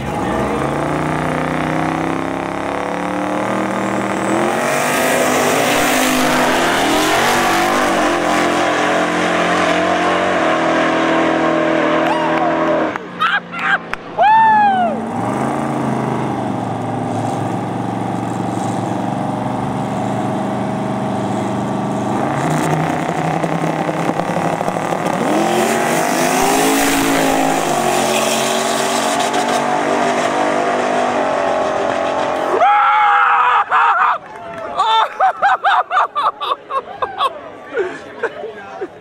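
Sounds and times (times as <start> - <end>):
cars launching with loud rush: 0.0 - 33.2
drag race car engines: 0.0 - 34.8.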